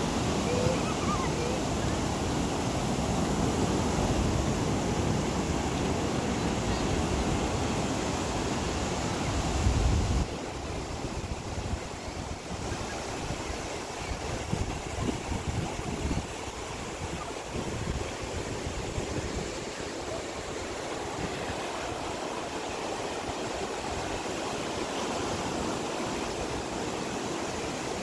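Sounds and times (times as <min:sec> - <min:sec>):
ocean surf breaking: 0:00.0 - 0:28.0
wind on microphone: 0:00.0 - 0:28.0.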